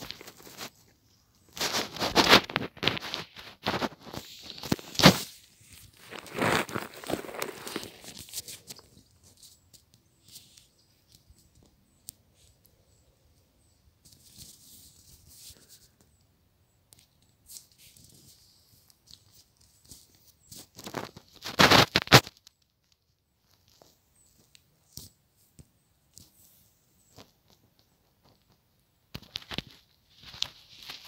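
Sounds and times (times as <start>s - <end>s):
faint rustling and crackling: 0.0s - 31.0s.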